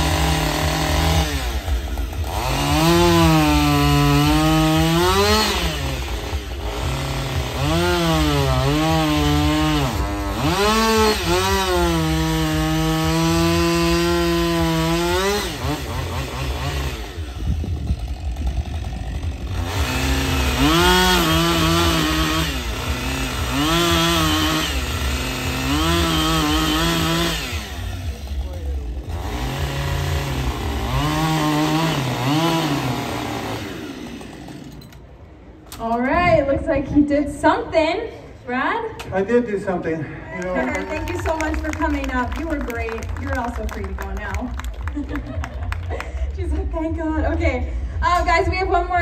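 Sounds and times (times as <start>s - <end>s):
chainsaw cutting wood: 0.0s - 35.9s, 40.5s - 46.4s.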